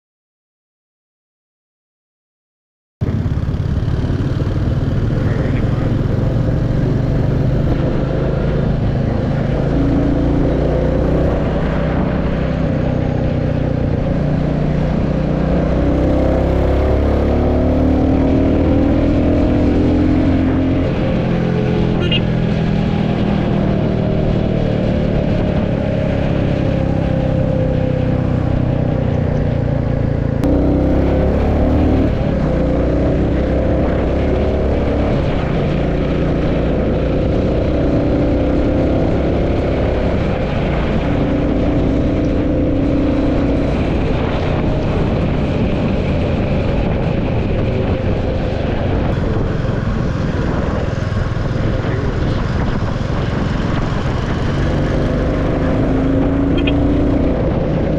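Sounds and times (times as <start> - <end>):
motorcycle engine cruising: 3.0 - 57.9.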